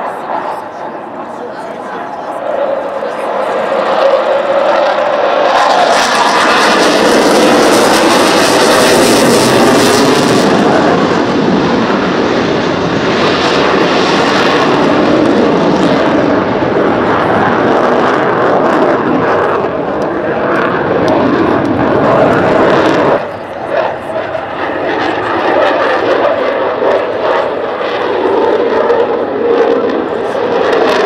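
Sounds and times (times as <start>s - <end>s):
jet engine roar: 0.0s - 31.0s.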